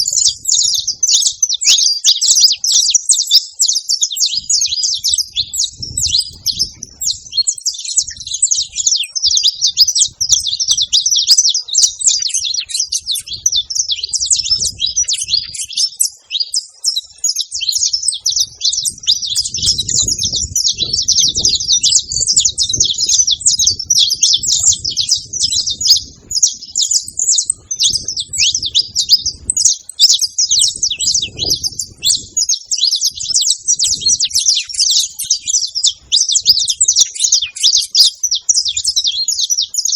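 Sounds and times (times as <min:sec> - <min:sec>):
flock of finches chirping: 0:00.0 - 0:39.9.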